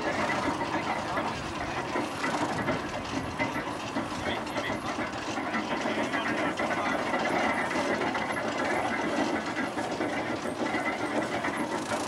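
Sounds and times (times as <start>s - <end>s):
threshing machine clattering: 0.0s - 12.0s.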